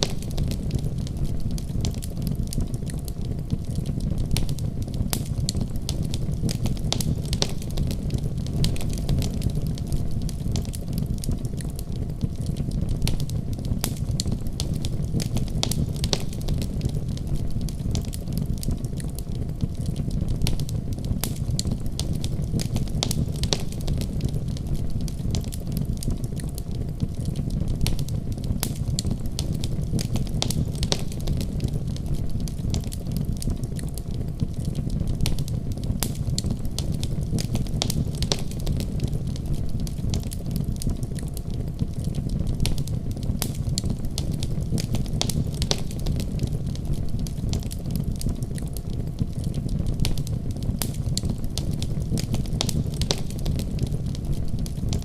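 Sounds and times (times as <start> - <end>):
fire crackling and popping: 0.0 - 55.0
fireplace fire rumbling: 0.0 - 55.0.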